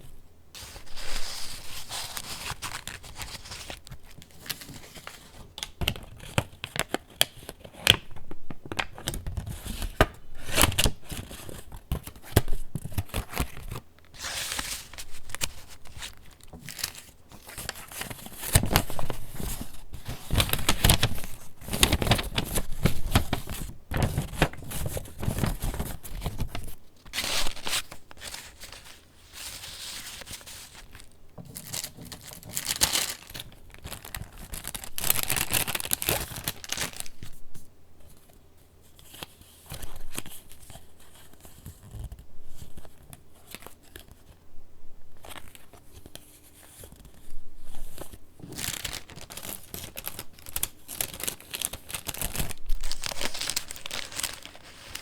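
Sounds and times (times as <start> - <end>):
paper pages rustling: 0.0 - 8.0, 8.6 - 37.4, 45.2 - 55.0.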